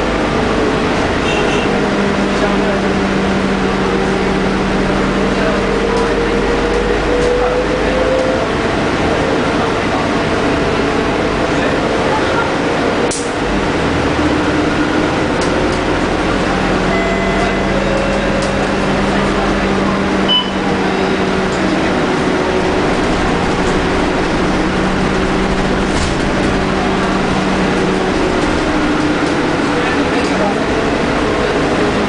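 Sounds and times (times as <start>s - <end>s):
bus engine hum: 0.0s - 32.0s
road noise: 0.0s - 32.0s.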